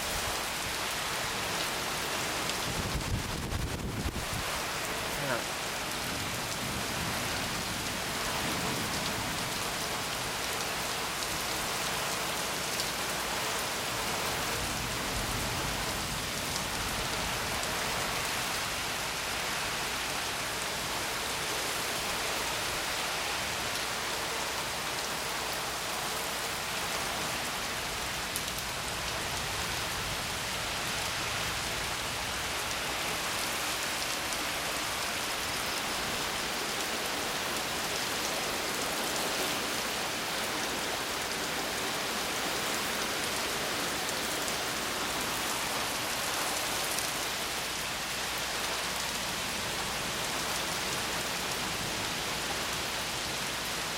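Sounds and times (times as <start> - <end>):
rain falling: 0.0 - 53.9.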